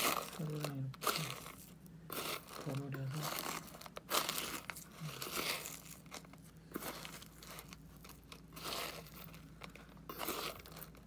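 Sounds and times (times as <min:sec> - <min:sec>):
dry kibble crunching in metal bowl: 0:00.0 - 0:11.0.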